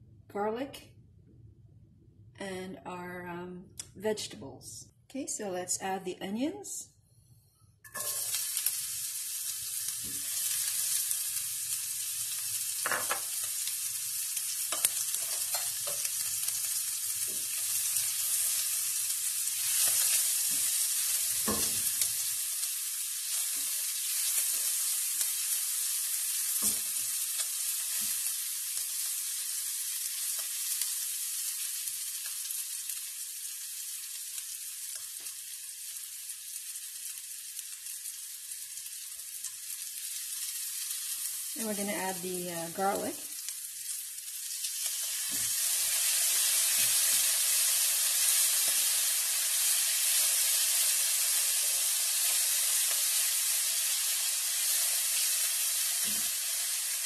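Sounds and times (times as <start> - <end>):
onions sizzling in frying pan: 7.9 - 57.0.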